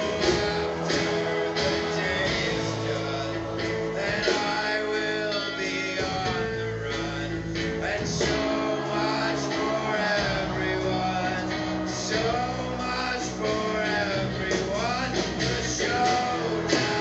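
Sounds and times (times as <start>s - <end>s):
folk-rock band playing guitars: 0.0s - 17.0s
person singing: 0.0s - 17.0s.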